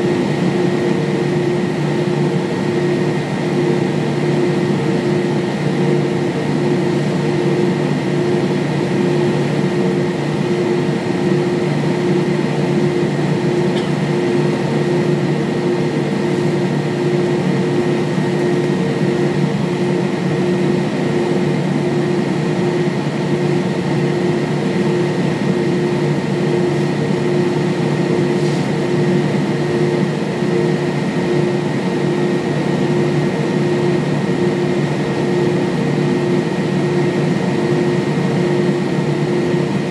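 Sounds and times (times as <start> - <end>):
air-conditioning hum: 0.0 - 39.9
aircraft engines idling: 0.0 - 39.9.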